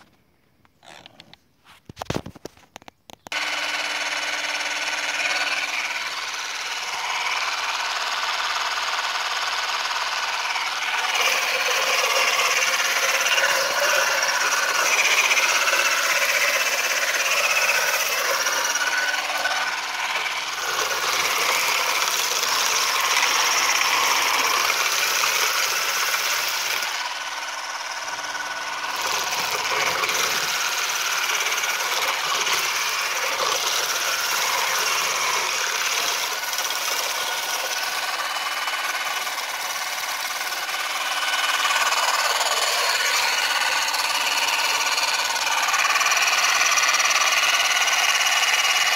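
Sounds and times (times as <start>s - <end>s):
electric motor whine: 3.3s - 48.9s.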